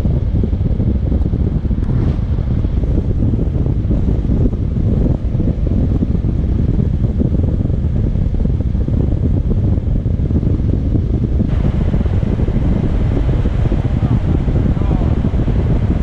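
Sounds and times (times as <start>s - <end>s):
road noise rumble: 0.0s - 16.0s
wind rushing over microphone: 0.0s - 16.0s.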